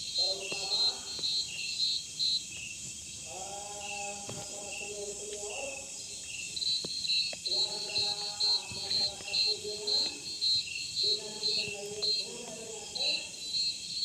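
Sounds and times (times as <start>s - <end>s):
crickets chirping: 0.0s - 14.0s
low drawn-out pitched calls: 0.0s - 14.0s
steady high hiss: 0.0s - 14.0s.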